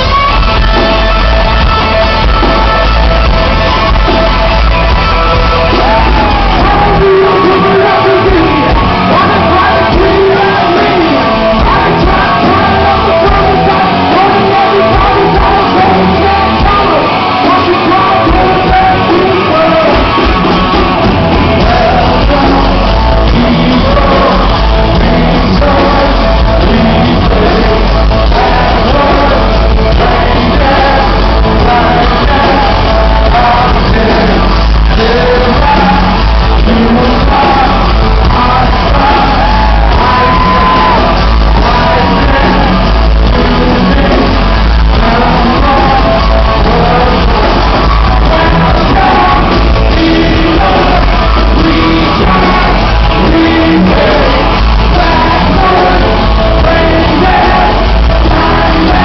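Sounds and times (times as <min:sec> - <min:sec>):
drums: 0:00.0 - 0:59.0
electric bass: 0:00.0 - 0:59.0
electric guitar: 0:00.0 - 0:59.0
man singing: 0:00.0 - 0:59.0.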